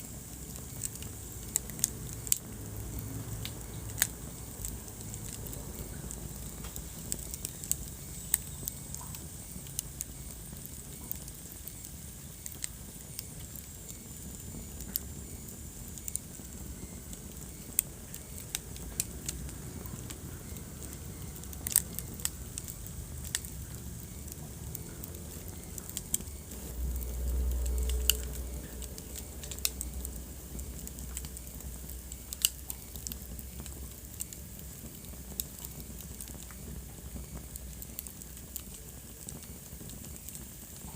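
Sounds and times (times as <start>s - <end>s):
low rumble of flame: 0.0s - 40.9s
wood fire crackling and popping: 0.0s - 40.9s.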